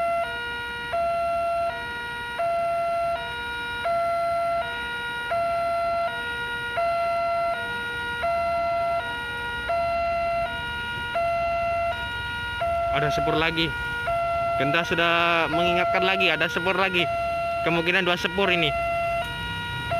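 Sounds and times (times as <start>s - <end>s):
level crossing two-tone alarm: 0.0s - 19.9s.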